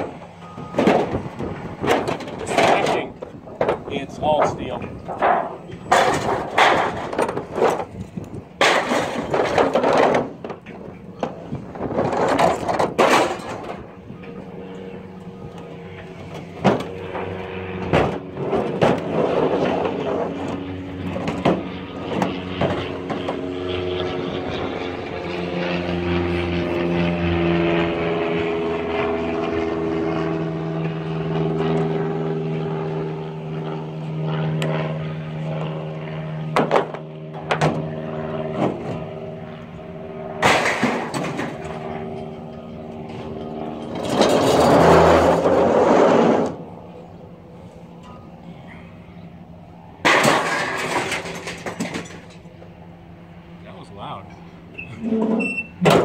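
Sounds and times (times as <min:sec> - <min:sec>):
heavy machinery engine running: 0:00.0 - 0:53.6.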